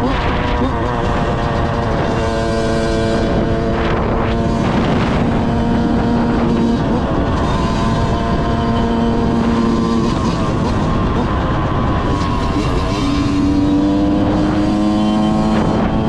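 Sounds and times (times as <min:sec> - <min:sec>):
two-stroke engine revving high: 0:00.0 - 0:16.0.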